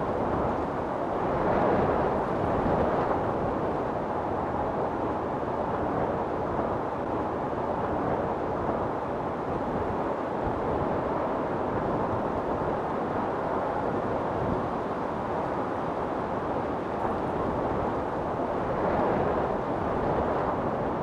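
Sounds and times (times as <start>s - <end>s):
wind storm rushing: 0.0s - 21.0s.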